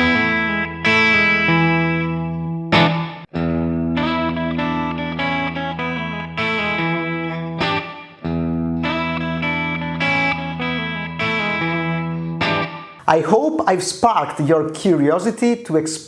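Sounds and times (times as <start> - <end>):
distorted electric guitar blues phrase: 0.0 - 15.2.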